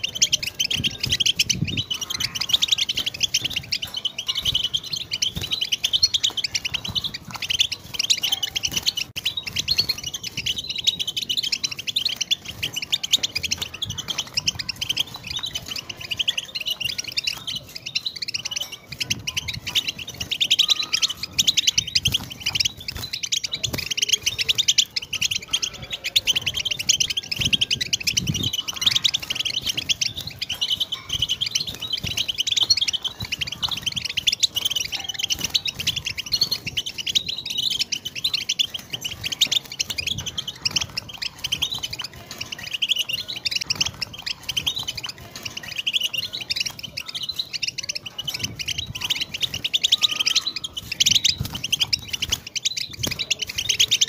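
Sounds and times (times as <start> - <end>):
goldfinch twittering song: 0.0 - 54.0.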